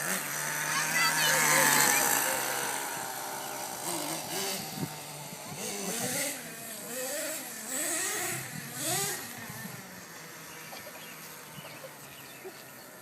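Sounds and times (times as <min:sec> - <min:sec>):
small engine buzzing and revving: 0:00.0 - 0:13.0.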